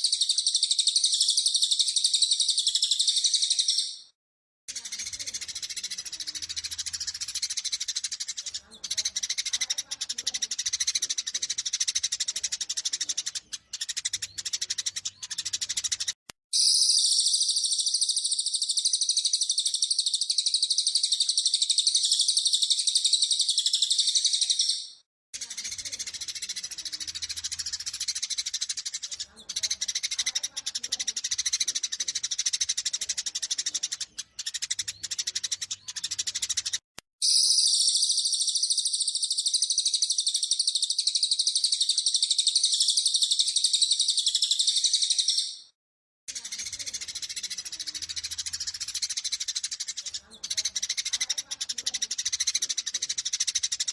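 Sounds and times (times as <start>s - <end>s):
high-pitched bird trill: 0.0s - 4.1s, 4.7s - 31.9s, 32.5s - 51.5s
sparrows chattering: 0.0s - 53.9s.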